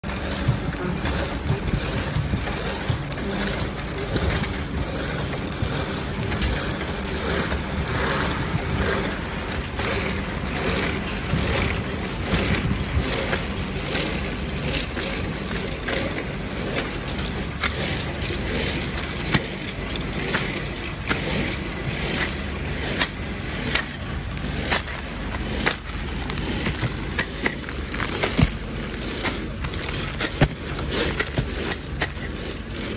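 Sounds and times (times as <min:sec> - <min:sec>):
sharp clicks and metallic clacks: 0:00.0 - 0:32.9
wrapping machine droning: 0:00.0 - 0:32.9.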